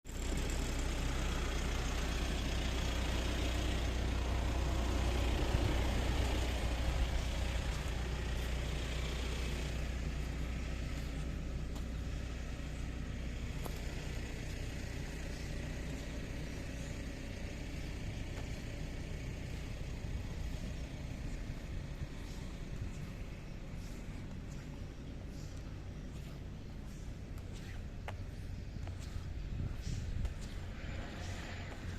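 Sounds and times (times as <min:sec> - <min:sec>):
vehicle engine rumble: 0:00.0 - 0:31.9.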